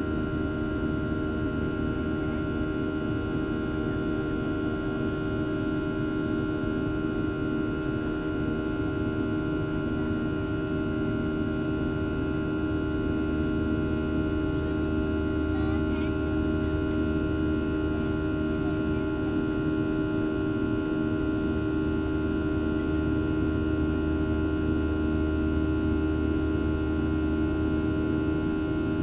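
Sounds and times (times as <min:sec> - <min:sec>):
jet engine drone in cabin: 0:00.0 - 0:29.0.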